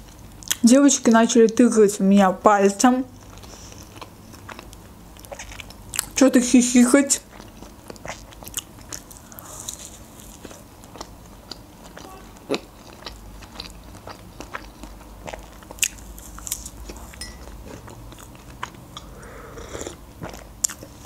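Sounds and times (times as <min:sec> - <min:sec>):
chewing pancake: 0:03.2 - 0:06.2, 0:07.2 - 0:21.0.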